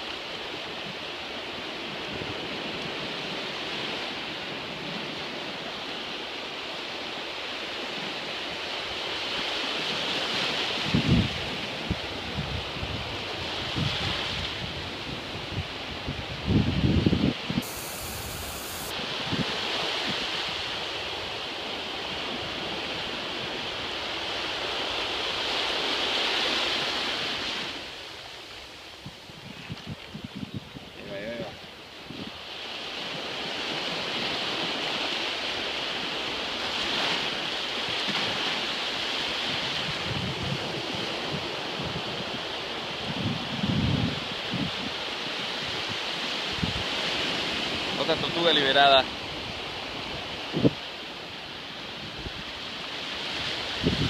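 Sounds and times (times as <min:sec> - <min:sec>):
surf washing on beach: 0:00.0 - 0:30.0, 0:30.8 - 0:54.0.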